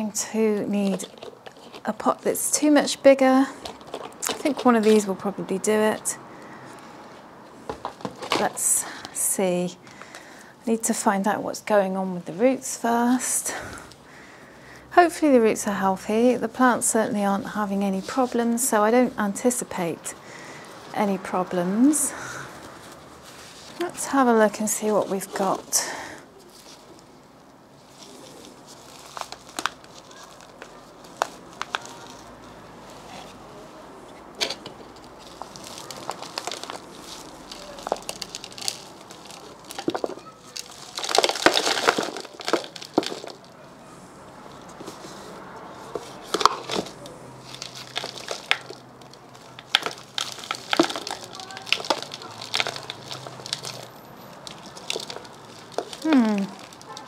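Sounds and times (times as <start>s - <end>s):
soil and roots crackling and rustling: 0.0s - 57.0s.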